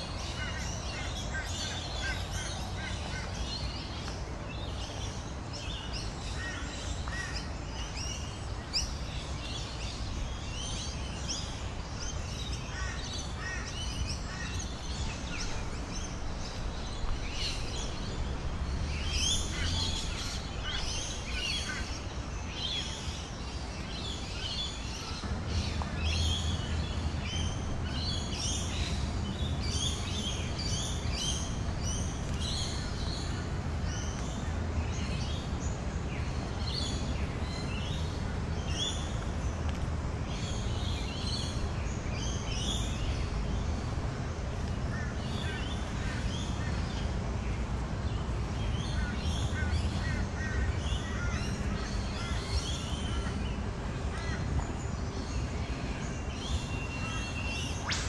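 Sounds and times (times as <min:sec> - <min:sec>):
birds chattering: 0:00.0 - 0:35.8, 0:36.4 - 0:58.0.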